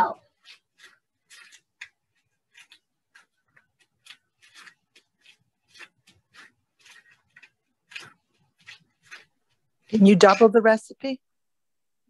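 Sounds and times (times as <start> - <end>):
plastic gloves crinkling: 0.0 - 11.2.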